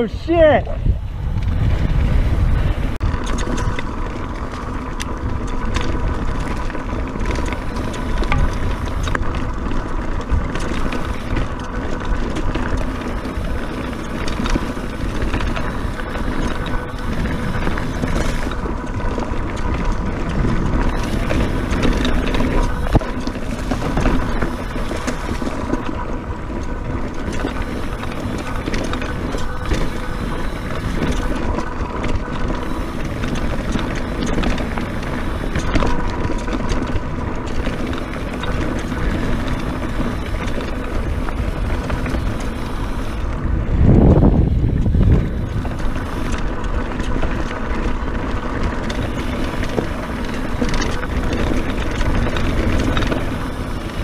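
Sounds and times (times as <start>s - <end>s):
tyres rolling on dirt: 0.0s - 54.0s
wind rushing over microphone: 0.0s - 54.0s
bike clattering over bumps: 1.4s - 54.0s.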